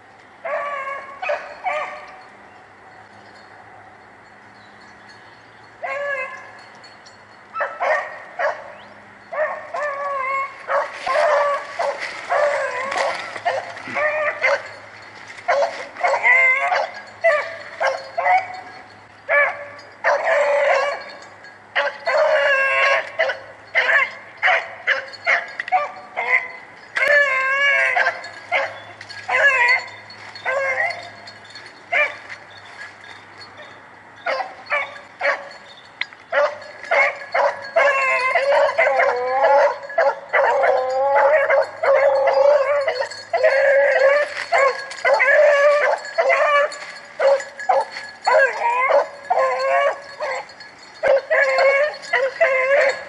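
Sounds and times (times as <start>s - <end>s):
hounds baying and howling: 0.4s - 2.3s, 5.6s - 53.0s.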